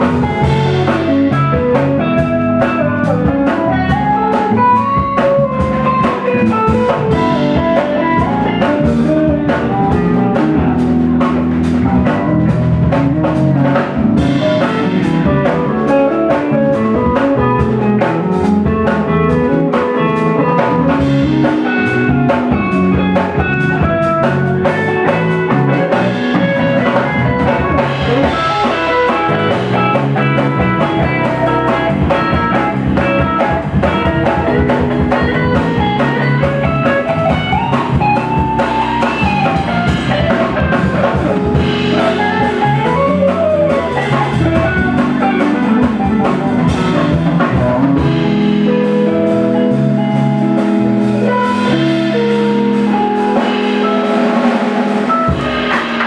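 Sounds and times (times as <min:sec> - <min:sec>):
bass guitar: 0:00.0 - 0:56.0
drum kit beat: 0:00.0 - 0:56.0
electric guitar: 0:00.0 - 0:56.0
keyboard: 0:00.0 - 0:56.0.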